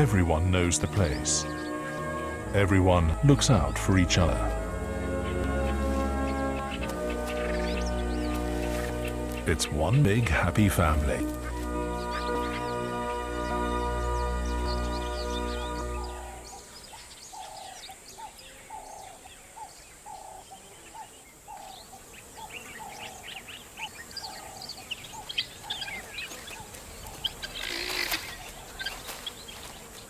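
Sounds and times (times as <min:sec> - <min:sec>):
low repeated bird calls: 0:00.0 - 0:30.0.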